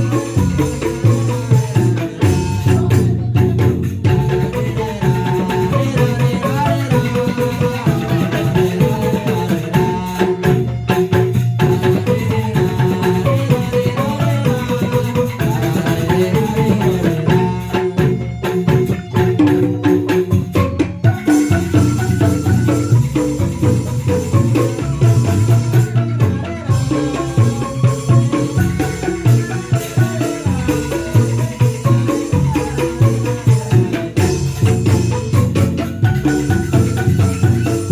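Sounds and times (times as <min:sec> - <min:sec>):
fast drum beat: 0:00.0 - 0:37.9
mallet percussion melody: 0:00.0 - 0:37.9.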